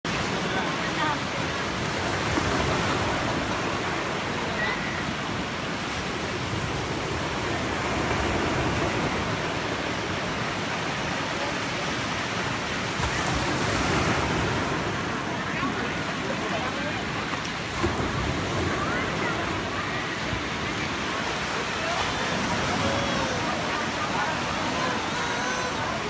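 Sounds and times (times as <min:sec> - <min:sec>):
sea waves washing on beach: 0:00.1 - 0:26.0.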